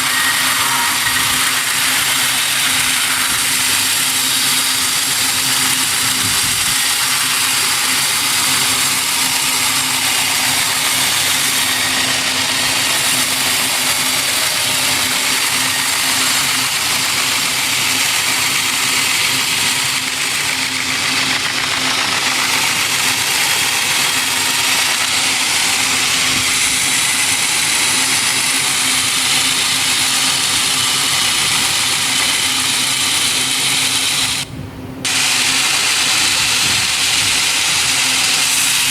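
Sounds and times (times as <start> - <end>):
sawmill machinery hum and hiss: 0.0 - 38.9.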